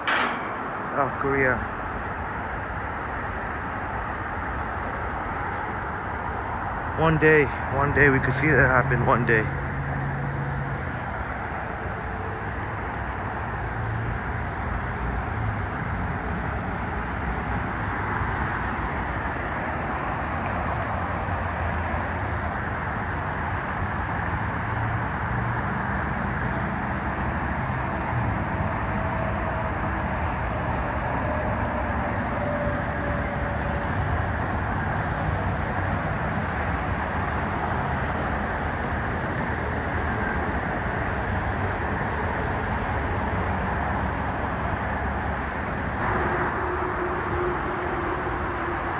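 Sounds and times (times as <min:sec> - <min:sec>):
road traffic noise: 0:00.0 - 0:48.9.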